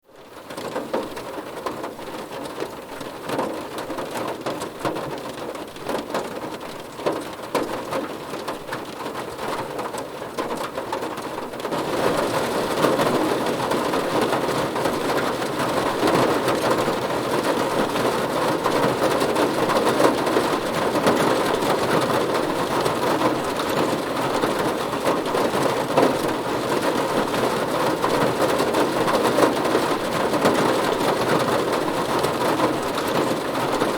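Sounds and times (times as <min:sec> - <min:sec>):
rain drumming on a car roof: 0:00.0 - 0:33.9.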